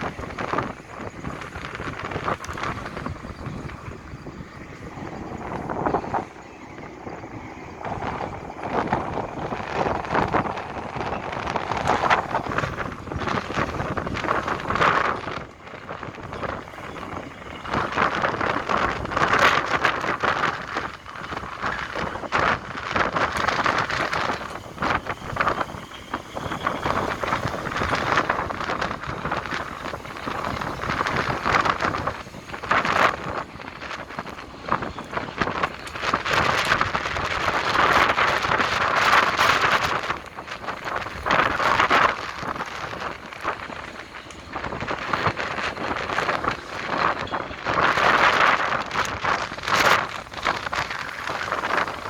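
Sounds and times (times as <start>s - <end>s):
ship diesel engine running: 0.0s - 52.0s
wind buffeting microphone: 0.0s - 52.0s.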